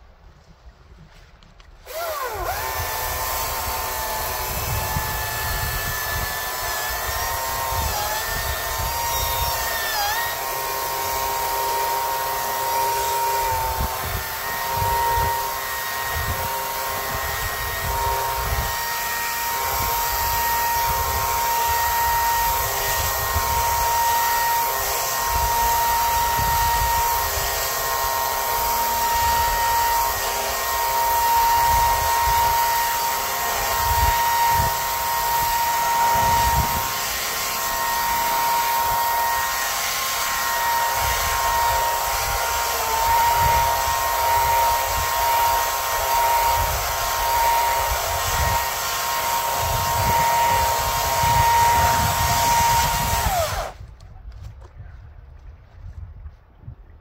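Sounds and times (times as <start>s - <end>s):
power tool whining: 1.6s - 53.9s.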